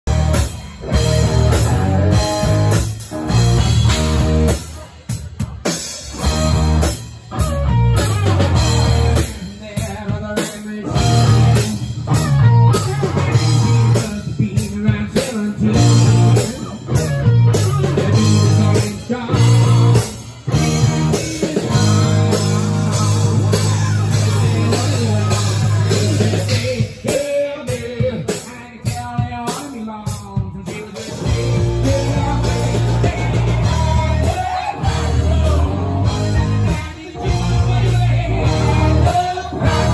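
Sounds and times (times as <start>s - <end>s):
drum kit: 0.0s - 39.9s
electric guitar: 0.1s - 39.9s.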